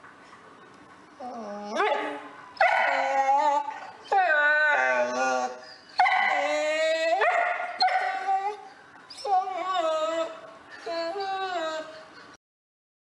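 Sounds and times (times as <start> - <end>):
dog whining and howling: 1.2 - 12.4.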